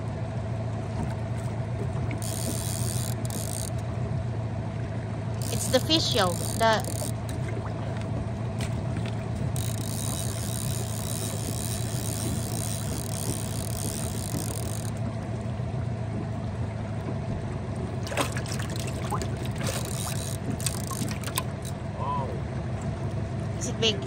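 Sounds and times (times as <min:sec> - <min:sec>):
outboard motor running: 0:00.0 - 0:24.0
water rushing past hull: 0:00.6 - 0:24.0.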